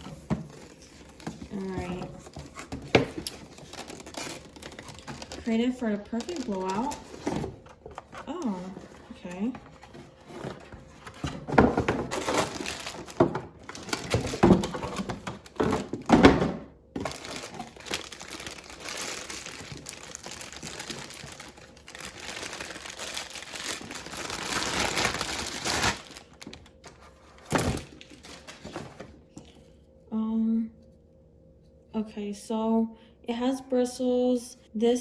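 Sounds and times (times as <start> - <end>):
packaging crinkling and rustling: 0.0 - 29.6.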